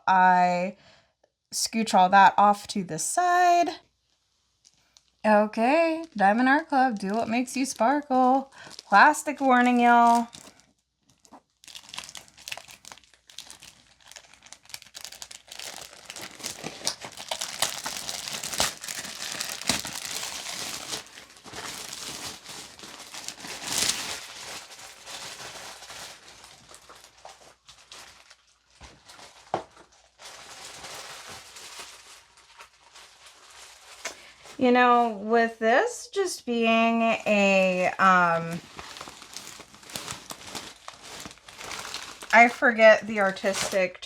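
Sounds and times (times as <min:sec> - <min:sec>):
plastic wrapping crinkling: 0:03.9 - 0:34.6, 0:36.5 - 0:44.0.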